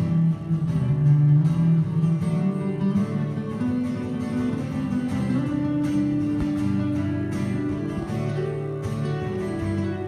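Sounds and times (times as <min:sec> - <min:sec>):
classical guitar fingerstyle: 0:00.0 - 0:10.0.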